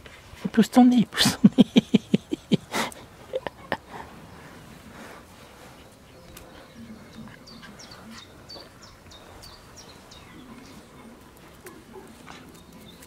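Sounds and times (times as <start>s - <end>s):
songbird chirping: 1.4s - 13.0s.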